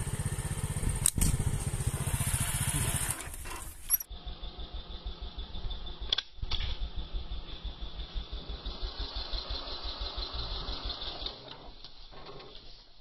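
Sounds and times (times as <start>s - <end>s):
small engine chugging: 0.0s - 12.8s.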